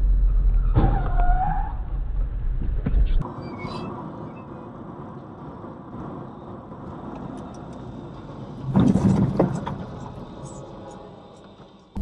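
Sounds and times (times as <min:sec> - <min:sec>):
car rumbling on road: 0:00.0 - 0:12.0.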